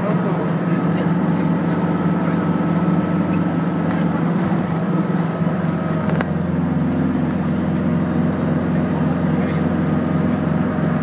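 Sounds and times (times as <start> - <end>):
bus engine running: 0.0 - 11.0
road and tyre noise: 0.0 - 11.0.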